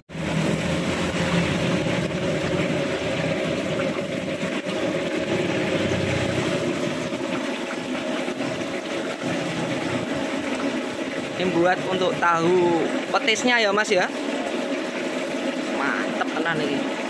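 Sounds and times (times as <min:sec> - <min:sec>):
oil bubbling and sizzling: 0:00.1 - 0:17.0.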